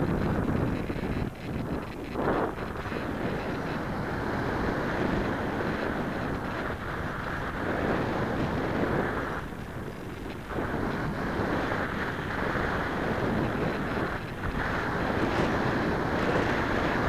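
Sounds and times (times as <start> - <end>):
airflow rushing over microphone: 0.0 - 17.0.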